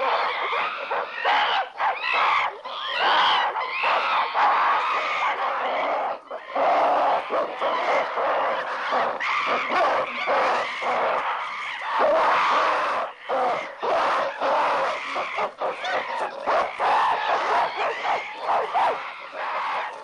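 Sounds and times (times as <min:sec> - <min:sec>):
apes screaming and hooting: 0:00.0 - 0:20.0.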